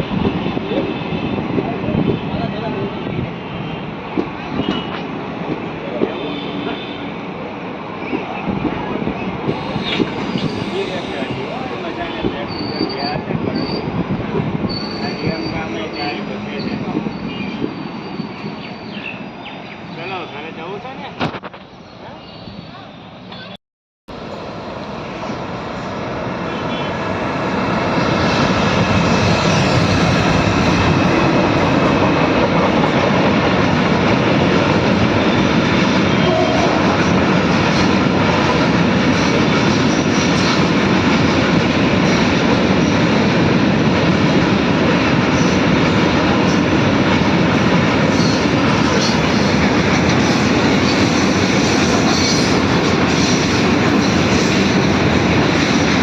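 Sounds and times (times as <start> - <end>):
train rumbling on rails: 0.0 - 23.5, 24.1 - 56.0.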